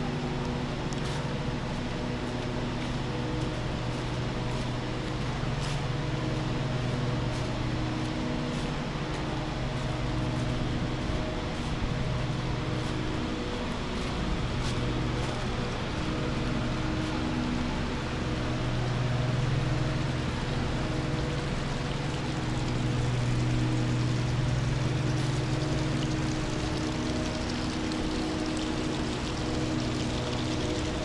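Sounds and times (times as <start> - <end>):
low machine drone: 0.0 - 31.0.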